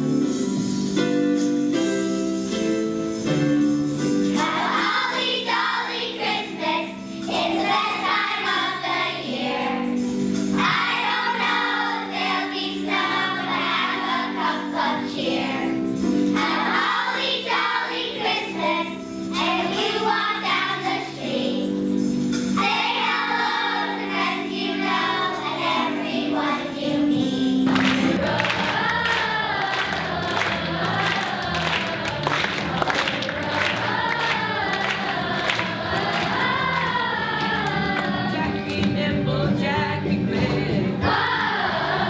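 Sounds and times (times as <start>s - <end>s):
children's choir singing a holiday song: 0.0s - 42.0s
children's choir singing: 4.3s - 21.9s, 22.6s - 42.0s.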